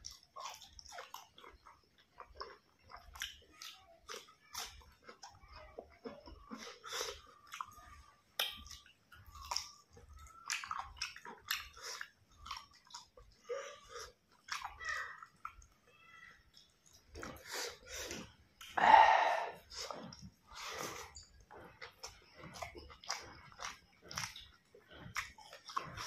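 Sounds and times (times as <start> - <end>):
wet chewing and lip-smacking: 0.0 - 26.0.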